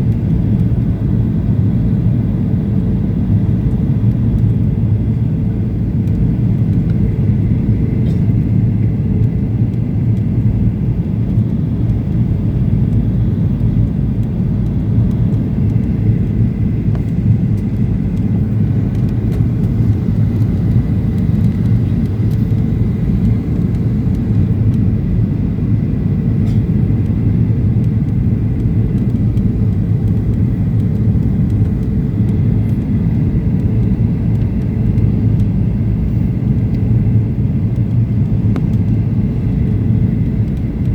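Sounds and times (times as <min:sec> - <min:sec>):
airplane cabin rumble: 0:00.0 - 0:40.9
faint steady whine: 0:00.0 - 0:40.9.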